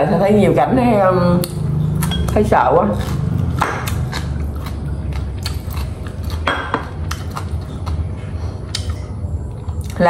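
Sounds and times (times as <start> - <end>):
steady low hum: 0.0 - 10.0
chewing: 1.4 - 10.0.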